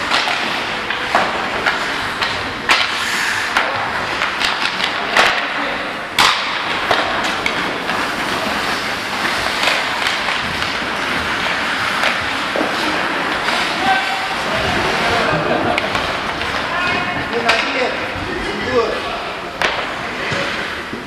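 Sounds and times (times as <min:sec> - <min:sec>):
hockey sticks and puck clacking: 0:00.0 - 0:21.0
skate blades scraping ice: 0:00.0 - 0:21.0.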